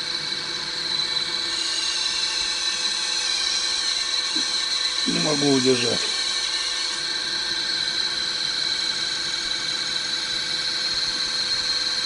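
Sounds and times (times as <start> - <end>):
drill press motor whining: 0.0 - 12.0.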